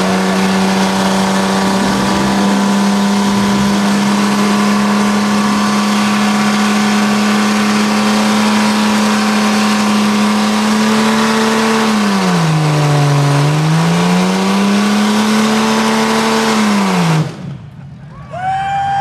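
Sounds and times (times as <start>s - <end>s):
engine revving high: 0.0s - 17.4s.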